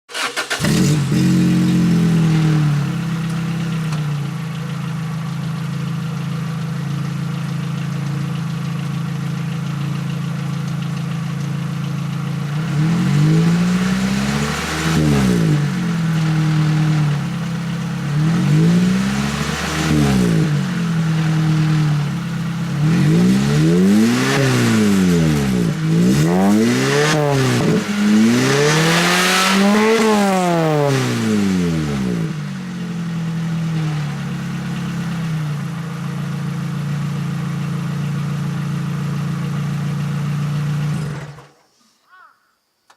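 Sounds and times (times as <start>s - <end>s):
car engine idling and revving: 0.1s - 41.5s.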